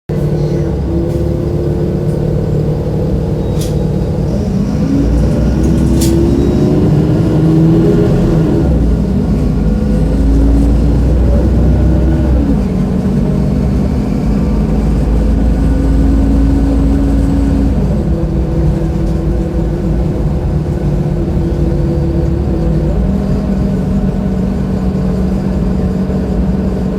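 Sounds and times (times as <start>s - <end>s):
bus diesel engine running: 0.1s - 26.9s.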